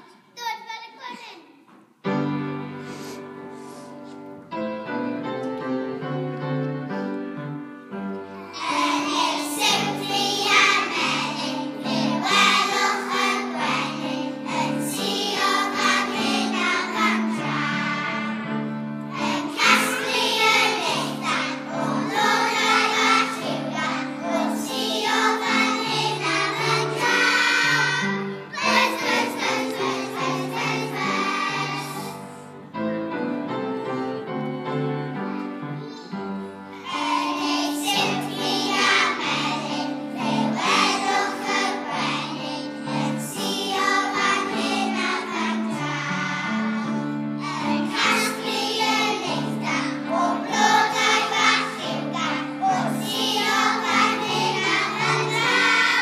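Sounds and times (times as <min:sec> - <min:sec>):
piano accompaniment: 0:02.0 - 0:56.0
children's choir singing: 0:08.0 - 0:56.0.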